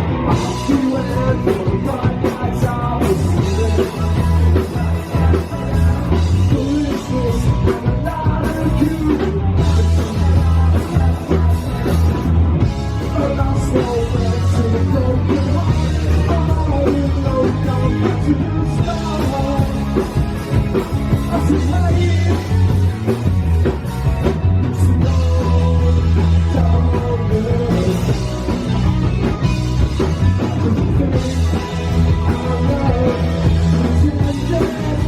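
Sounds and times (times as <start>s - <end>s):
person singing: 0.0s - 23.0s, 24.7s - 35.0s
drums: 0.0s - 35.0s
electric guitars: 0.0s - 35.0s
heavy bass: 0.0s - 35.0s.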